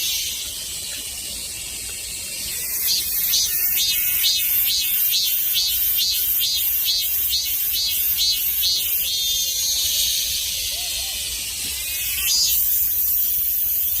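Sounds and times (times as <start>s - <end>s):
cicada singing: 0.0s - 14.0s.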